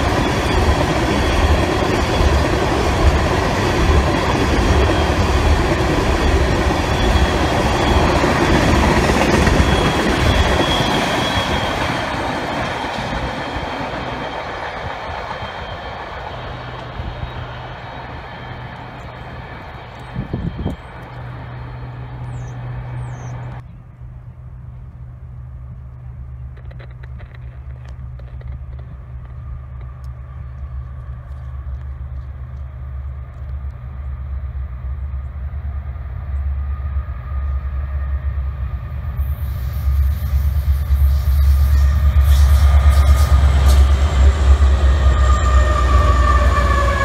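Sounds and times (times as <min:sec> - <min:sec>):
locomotive engine drone: 0:00.0 - 0:47.0
rail and wheel noise: 0:00.0 - 0:47.0.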